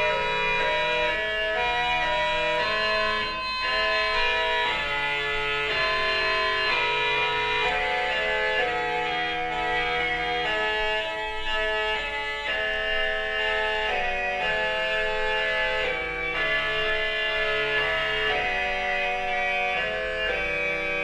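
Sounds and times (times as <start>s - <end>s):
pipe organ reed chords: 0.0s - 21.0s.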